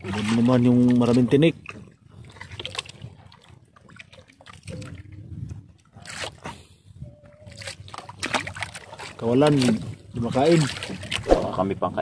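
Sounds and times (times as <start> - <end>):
seawater trickling and dripping: 0.0 - 11.2.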